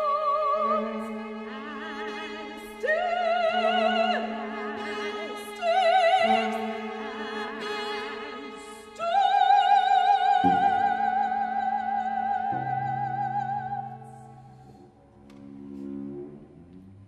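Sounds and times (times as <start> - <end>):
soprano singing with vibrato: 0.0 - 14.4
cellos playing: 0.0 - 17.0.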